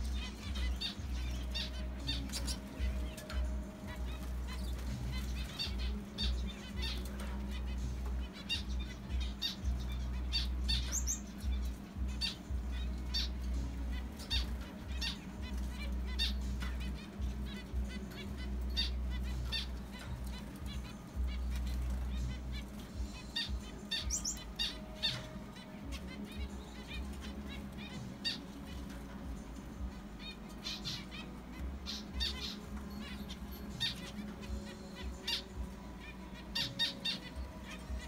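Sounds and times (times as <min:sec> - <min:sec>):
finches chirping: 0:00.0 - 0:38.0.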